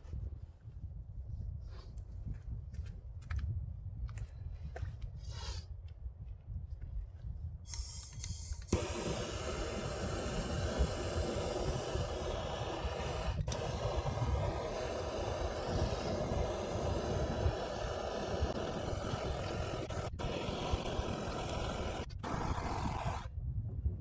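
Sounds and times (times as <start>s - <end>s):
wind buffeting microphone: 0.0s - 7.8s, 8.7s - 24.0s.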